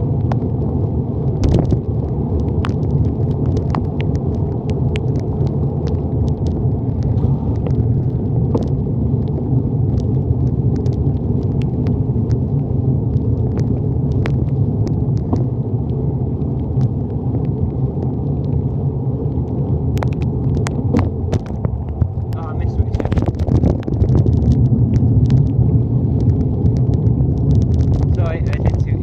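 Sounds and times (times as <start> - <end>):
sharp ticks of rain: 0.0 - 29.0
wind buffeting microphone: 0.0 - 29.0.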